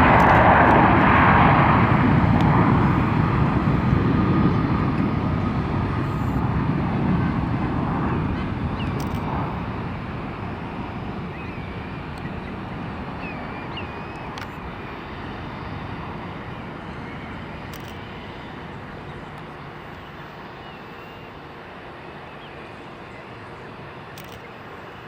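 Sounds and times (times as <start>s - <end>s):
distant jet engines rumbling: 0.0s - 25.0s.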